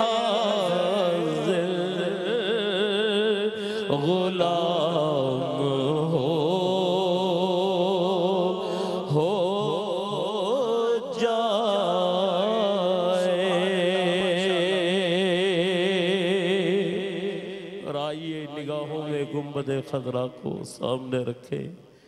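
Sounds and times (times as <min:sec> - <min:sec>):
man singing with vibrato: 0:00.0 - 0:22.0.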